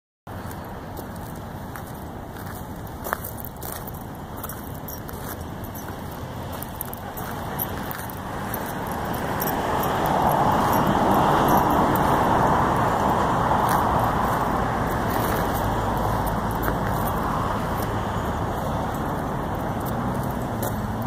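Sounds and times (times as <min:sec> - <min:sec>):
road traffic rushing: 0:00.3 - 0:21.0.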